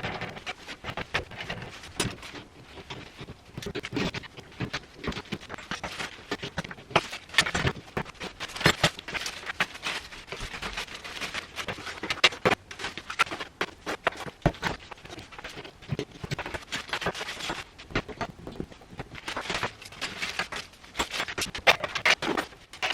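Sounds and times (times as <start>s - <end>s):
hard objects clattering: 0.0s - 22.9s.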